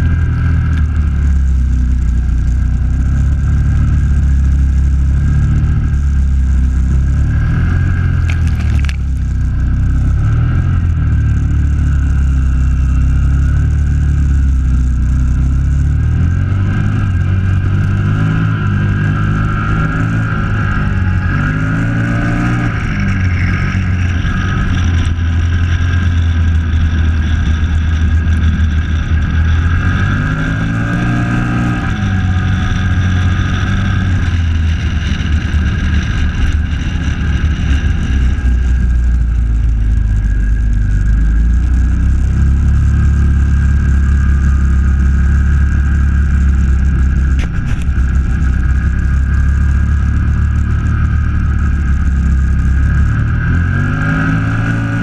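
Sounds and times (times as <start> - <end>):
quad engine revving: 2.6 - 55.0.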